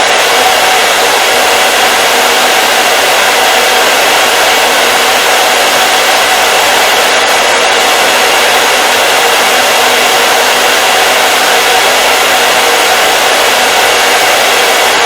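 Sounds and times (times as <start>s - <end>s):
hair dryer blowing air: 0.0s - 15.0s.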